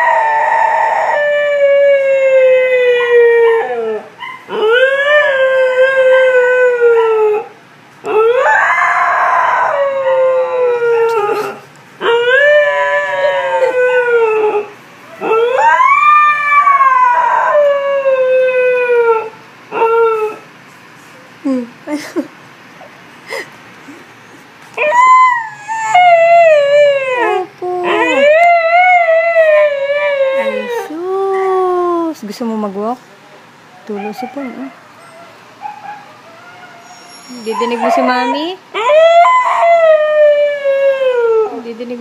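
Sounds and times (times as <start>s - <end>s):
dog howling: 0.0s - 20.5s, 24.2s - 31.9s, 33.9s - 41.7s.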